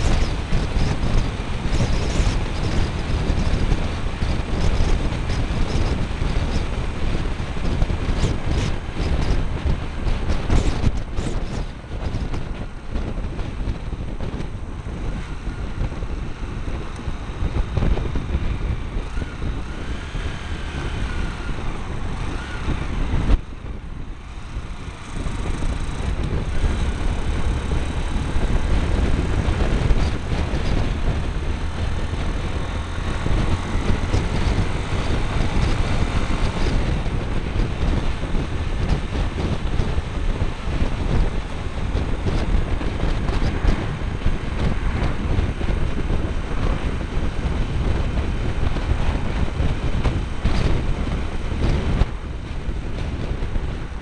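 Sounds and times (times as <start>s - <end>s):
motorbike engine running: 0.0s - 54.0s
wind buffeting microphone: 0.0s - 54.0s.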